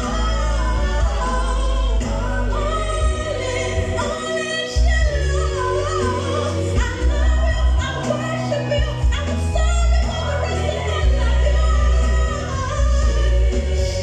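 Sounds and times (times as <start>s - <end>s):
woman singing gospel: 0.0s - 14.0s.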